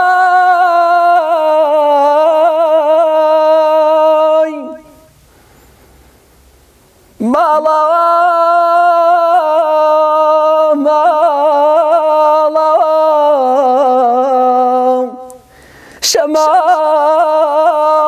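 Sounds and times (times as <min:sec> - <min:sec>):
man singing unaccompanied: 0:00.0 - 0:05.1, 0:07.2 - 0:15.4, 0:16.0 - 0:18.0.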